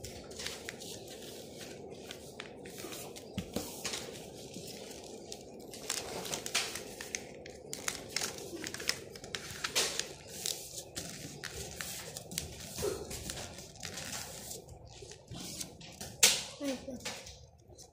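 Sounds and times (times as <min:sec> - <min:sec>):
low background hum: 0:00.0 - 0:17.9
paper rustling and crinkling: 0:00.0 - 0:17.9.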